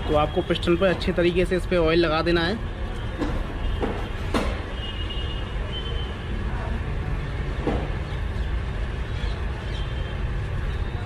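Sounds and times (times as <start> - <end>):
workshop low rumble: 0.0 - 11.0.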